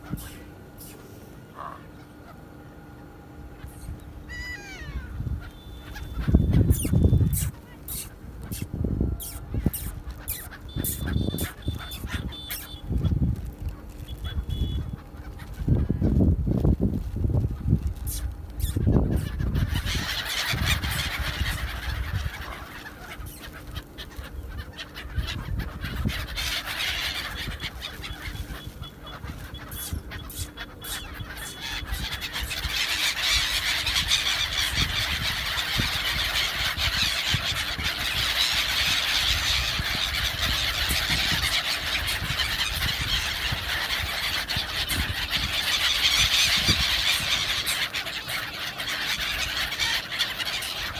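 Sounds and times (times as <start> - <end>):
flock of birds chattering: 0.0 - 50.9.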